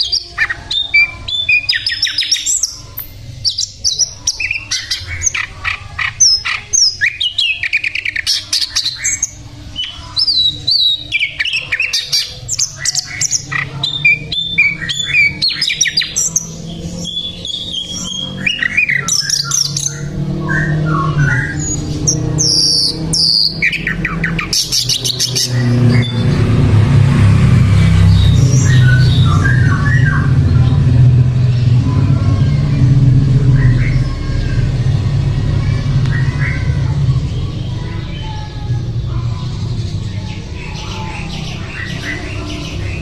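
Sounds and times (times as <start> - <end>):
songbird singing whistles and chatter: 0.0 - 26.5, 27.7 - 31.8, 33.4 - 43.0.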